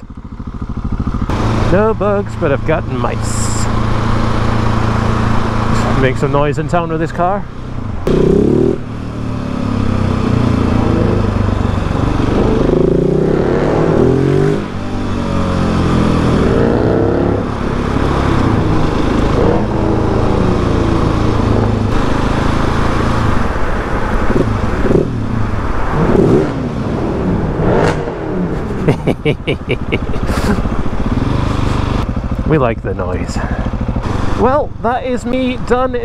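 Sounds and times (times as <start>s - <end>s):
car exhaust revving: 0.0s - 35.5s
motorcycle engine running: 0.0s - 36.0s
road noise: 0.0s - 36.0s.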